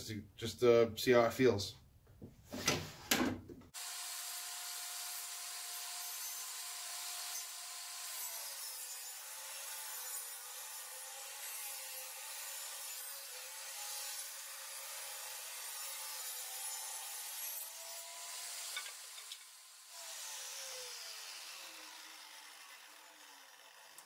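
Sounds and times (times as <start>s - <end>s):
table saw ripping a board: 2.6s - 24.0s
saw blade winding down: 3.8s - 24.0s.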